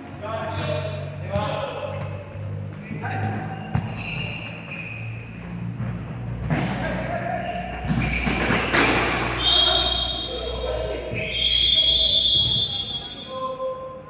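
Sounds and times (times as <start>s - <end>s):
voices in echoing hall: 0.0s - 5.2s, 6.3s - 14.0s.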